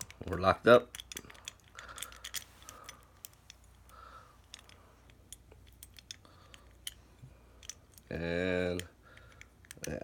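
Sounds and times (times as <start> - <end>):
small metallic clicks and taps: 0.0 - 7.0, 7.6 - 10.0.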